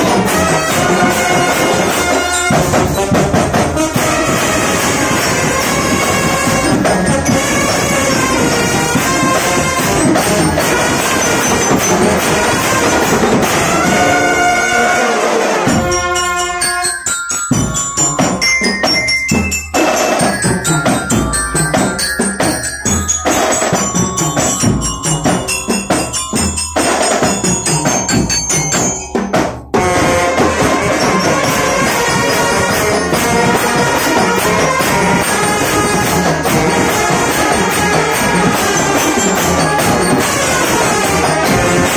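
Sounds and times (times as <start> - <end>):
bell-like mallet notes: 0.0 - 14.9, 15.7 - 41.9
drum strokes: 0.0 - 41.9
marching band playing loudly: 0.0 - 41.9.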